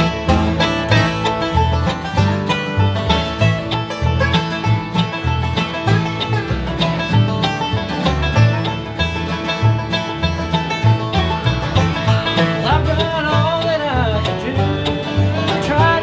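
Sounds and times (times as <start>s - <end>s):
acoustic guitar rhythm: 0.0s - 16.0s
banjo picking: 0.0s - 16.0s
upright bass notes: 0.0s - 16.0s.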